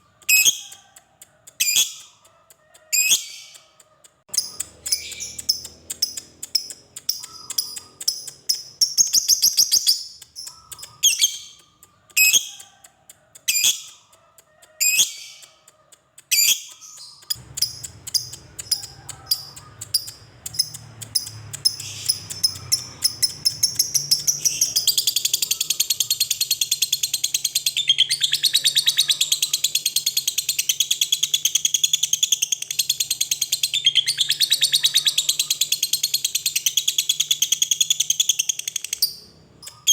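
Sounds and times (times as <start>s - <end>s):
lovebird singing: 0.0s - 39.9s.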